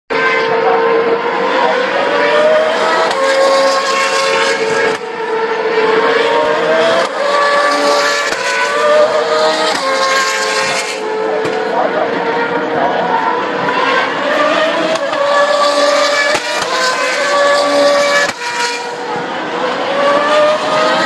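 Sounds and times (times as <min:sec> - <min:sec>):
racing car engines revving: 0:00.1 - 0:21.0.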